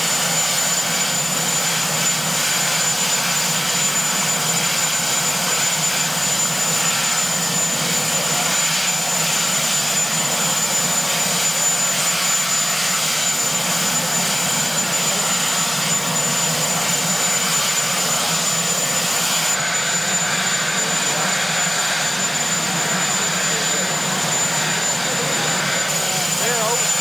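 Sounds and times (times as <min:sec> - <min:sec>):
helicopter turbine engines running: 0:00.0 - 0:27.0.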